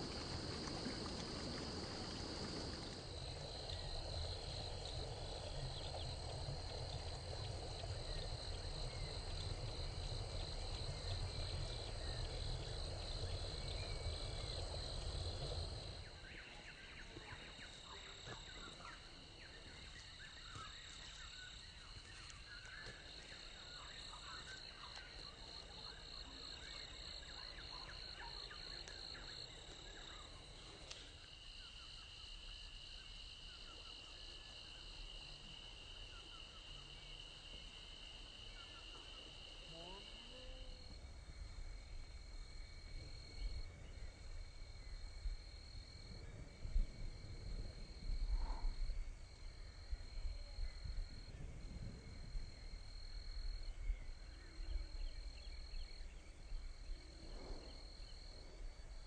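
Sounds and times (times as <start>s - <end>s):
wind rumbling on microphone: 0.0s - 31.5s, 37.5s - 59.0s
insects trilling: 0.0s - 59.0s.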